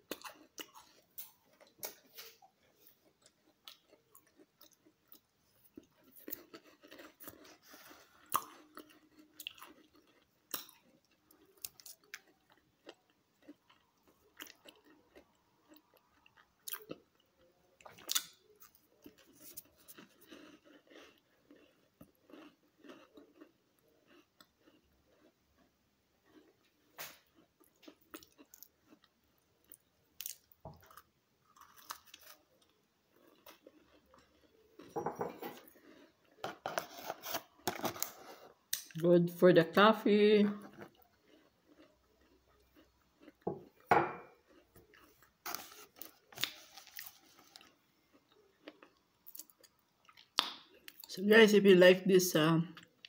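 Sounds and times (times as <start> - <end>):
crunchy cookie chewing: 0.0 - 39.1, 40.4 - 51.1, 52.8 - 53.0.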